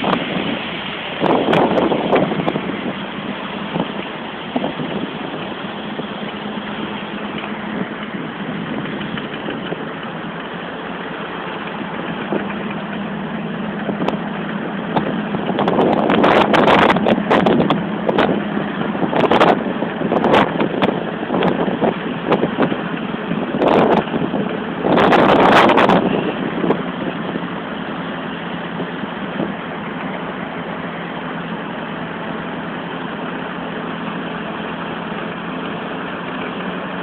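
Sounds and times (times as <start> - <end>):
car engine low hum: 0.0 - 37.0
constant hiss: 0.0 - 37.0
irregular rushes of water noise: 0.0 - 37.0.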